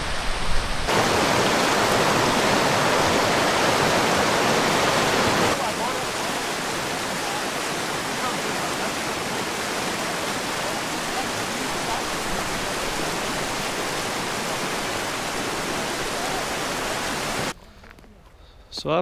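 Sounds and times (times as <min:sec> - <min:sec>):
river rushing over rocks: 0:00.0 - 0:17.6.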